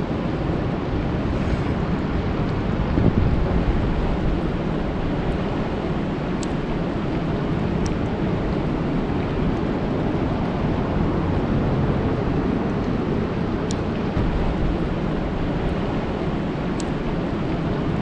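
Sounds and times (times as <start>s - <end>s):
rain falling on a lake: 2.4s - 18.0s.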